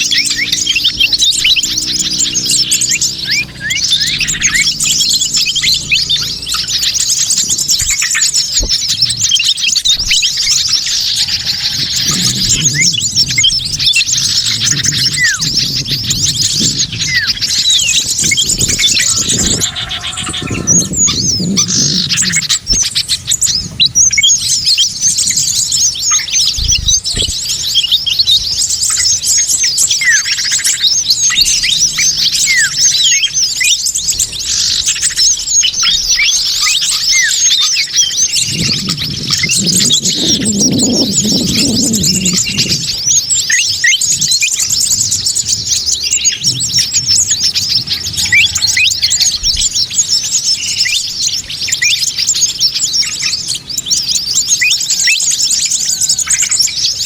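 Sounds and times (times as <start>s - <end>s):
chorus of small birds chirping: 0.0s - 57.0s.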